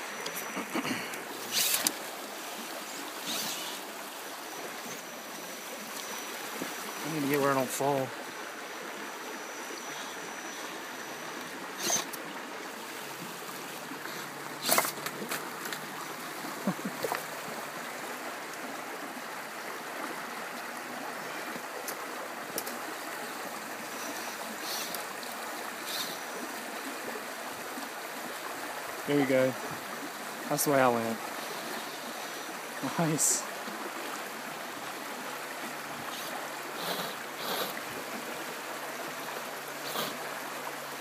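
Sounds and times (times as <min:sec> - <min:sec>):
flowing river water: 0:00.0 - 0:41.0.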